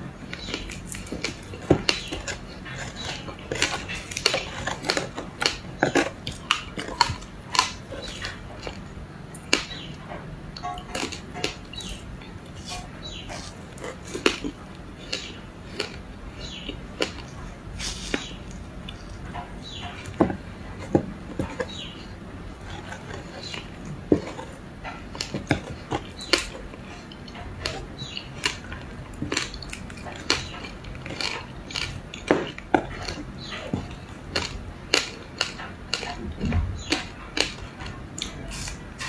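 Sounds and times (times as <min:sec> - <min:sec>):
person chewing ice: 0:00.2 - 0:39.0.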